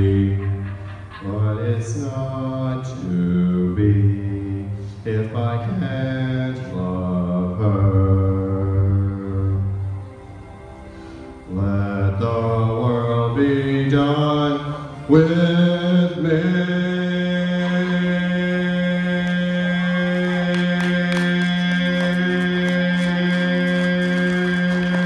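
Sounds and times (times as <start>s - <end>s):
man singing into microphone: 0.0s - 9.7s, 11.5s - 25.0s.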